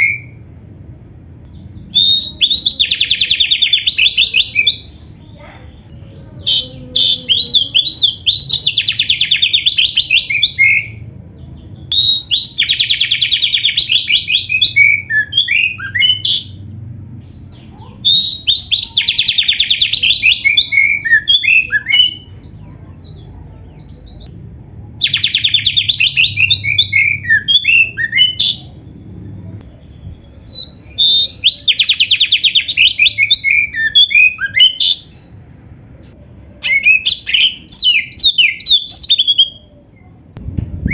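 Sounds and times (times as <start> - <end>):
songbird singing: 0.0 - 24.4, 25.0 - 35.3, 36.6 - 40.9.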